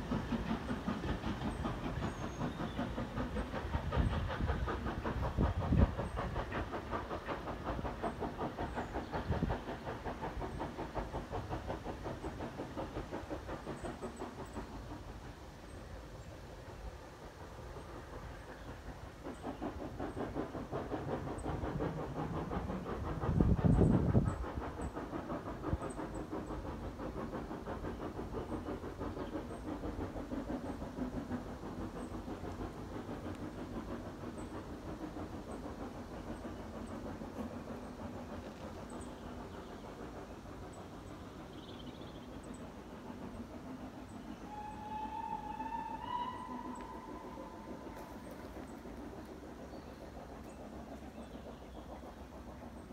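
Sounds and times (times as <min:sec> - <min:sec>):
steam locomotive exhaust beats: 0:00.0 - 0:52.9.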